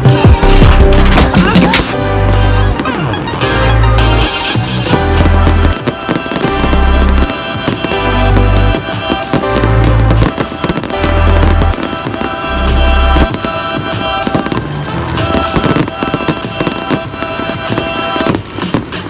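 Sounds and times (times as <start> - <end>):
fireworks bursting and crackling: 0.0 - 19.0
music with deep bass: 0.0 - 19.0.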